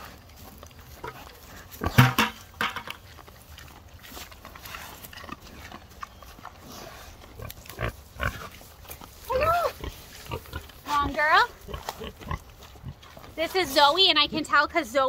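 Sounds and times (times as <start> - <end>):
pigs chewing and crunching feed: 0.0 - 15.0.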